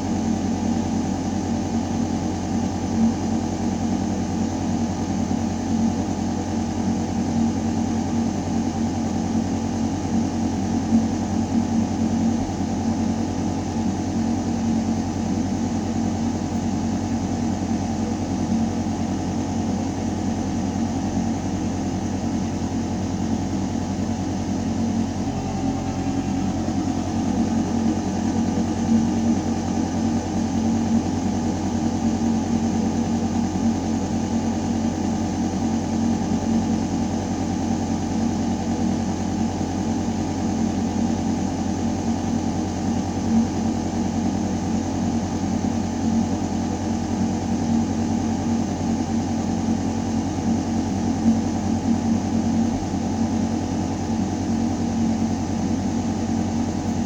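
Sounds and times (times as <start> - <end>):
ventilation hum in ducting: 0.0 - 57.0.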